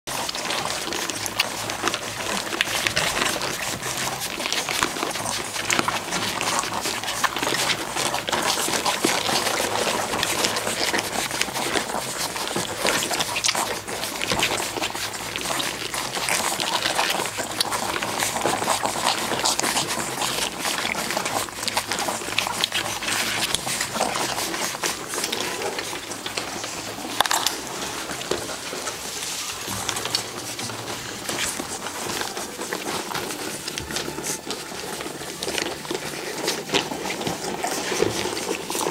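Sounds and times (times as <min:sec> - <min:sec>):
puppies suckling wet smacking: 0:00.1 - 0:38.9.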